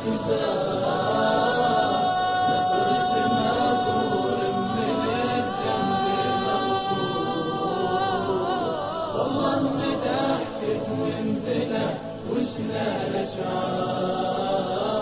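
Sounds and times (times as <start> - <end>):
chorus of voices singing: 0.0 - 15.0.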